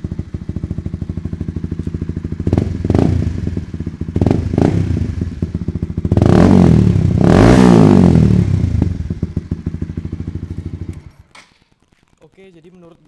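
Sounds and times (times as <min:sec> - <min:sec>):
motorcycle engine idling and revving: 0:00.0 - 0:12.1.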